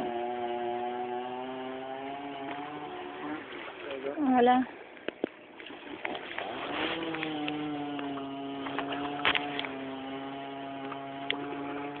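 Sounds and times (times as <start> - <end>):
motor humming: 0.0 - 4.1, 6.2 - 12.0.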